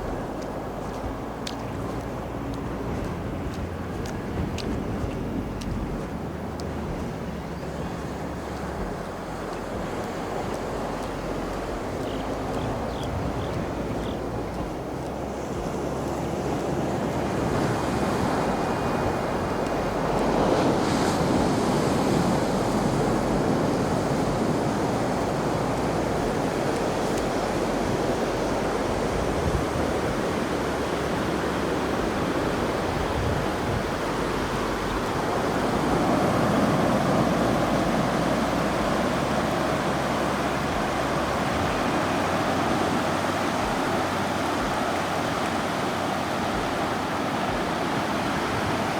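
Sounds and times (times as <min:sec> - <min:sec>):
ocean surf breaking waves: 0:00.0 - 0:48.9.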